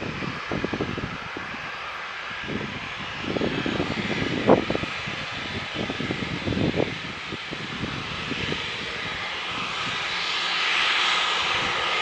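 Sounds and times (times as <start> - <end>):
jet engines whining: 0.0 - 12.0
wind buffeting microphone: 0.0 - 12.0.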